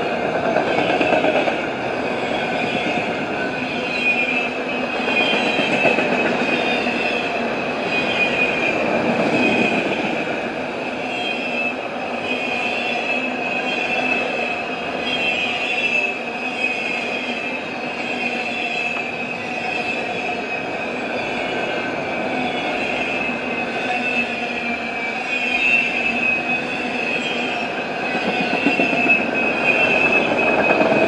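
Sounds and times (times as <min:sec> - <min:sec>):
freight train rolling past: 0:00.0 - 0:31.0
high wheel squeal: 0:00.6 - 0:31.0.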